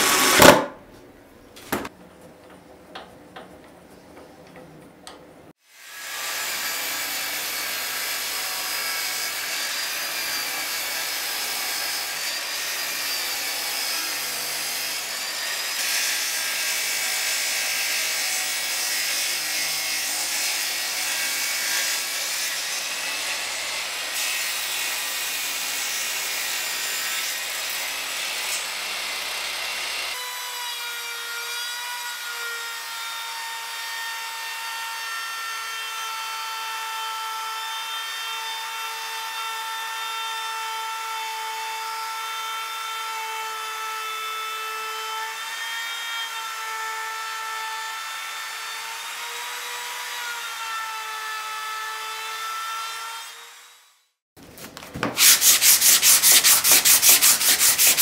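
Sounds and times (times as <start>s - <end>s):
table saw cutting wood: 0.0s - 0.8s, 5.6s - 54.2s, 55.0s - 58.0s.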